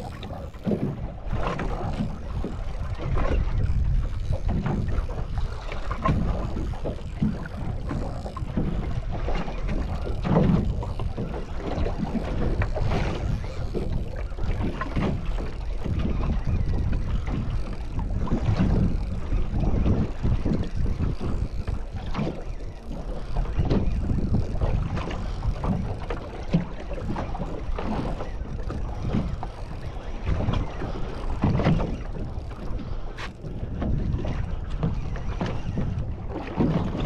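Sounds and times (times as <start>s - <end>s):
water against boat hull: 0.0s - 37.0s
wind buffeting microphone: 0.0s - 37.0s.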